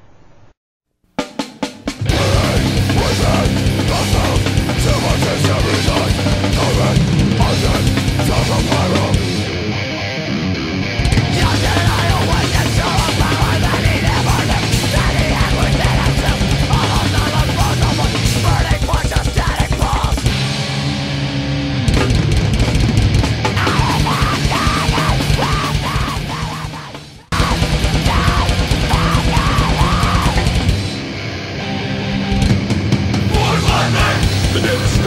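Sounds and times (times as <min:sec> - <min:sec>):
heavy metal music: 0:01.4 - 0:35.0.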